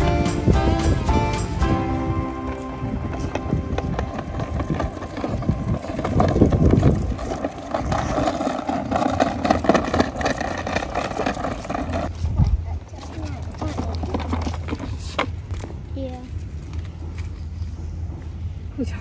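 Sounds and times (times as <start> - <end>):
scooter wheels rolling on stone: 0.0 - 18.4.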